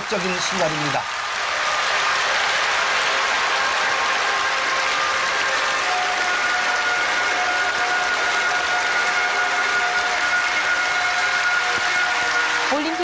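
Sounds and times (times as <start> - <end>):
stadium crowd applauding: 0.0 - 13.0.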